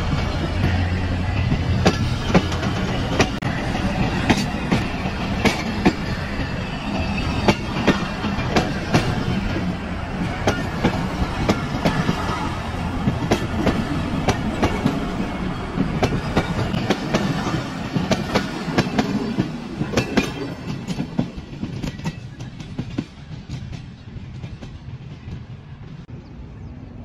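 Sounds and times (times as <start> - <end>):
train coaches rumbling past: 0.0 - 27.0.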